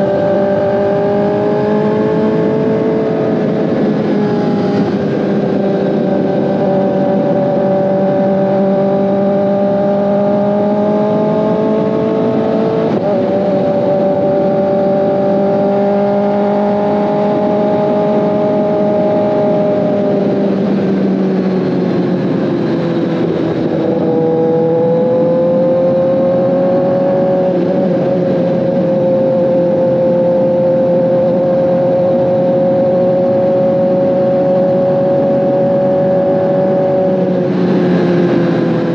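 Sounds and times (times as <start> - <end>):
motorcycle engine cruising: 0.0 - 38.9
wind noise: 0.0 - 38.9.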